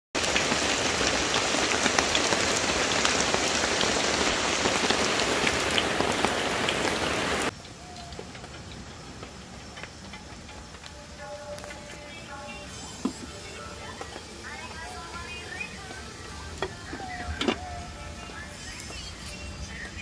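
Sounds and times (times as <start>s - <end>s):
heavy rain on leaves and stones: 0.1s - 20.0s.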